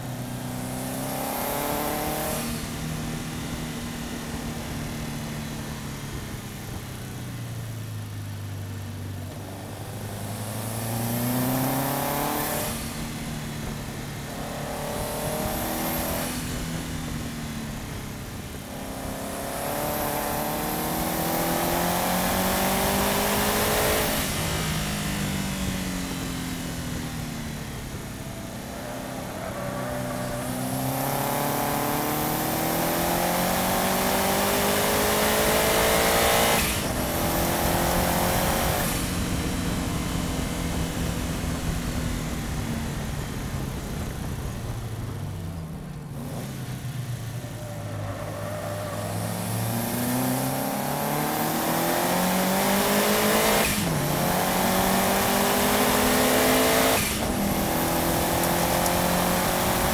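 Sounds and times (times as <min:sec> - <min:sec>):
car engine revving through gears: 0:00.0 - 0:05.2, 0:09.2 - 0:45.1, 0:45.9 - 0:59.9
road and wind noise: 0:00.0 - 0:59.9.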